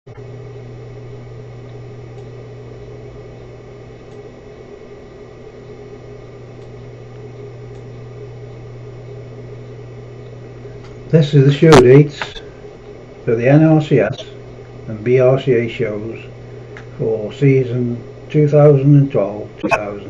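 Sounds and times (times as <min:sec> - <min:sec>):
low electrical hum: 0:00.1 - 0:20.0.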